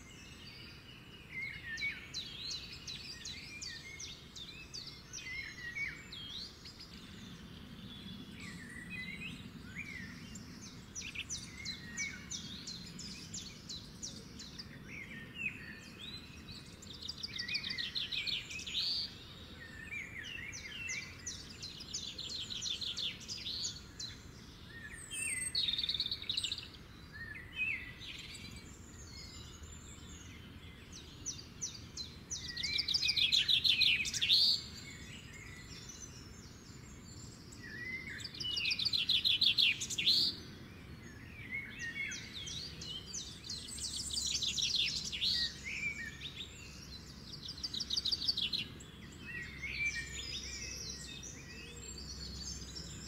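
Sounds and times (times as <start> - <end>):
faint low background noise: 0.0 - 53.0
songbirds chirping: 0.0 - 53.0
songbirds trilling: 0.0 - 53.0.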